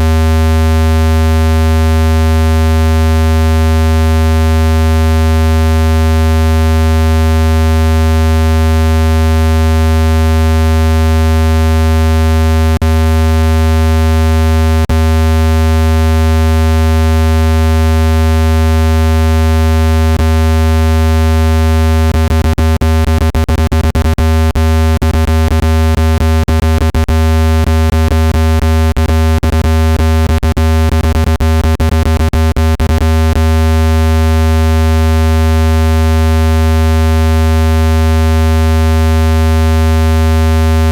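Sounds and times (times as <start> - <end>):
low electronic buzzing tone: 0.0 - 40.9.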